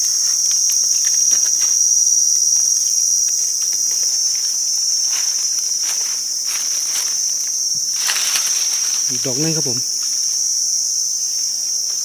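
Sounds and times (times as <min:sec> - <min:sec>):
rustling dry leaves: 0:00.0 - 0:11.2
high-pitched insect drone: 0:00.0 - 0:12.0.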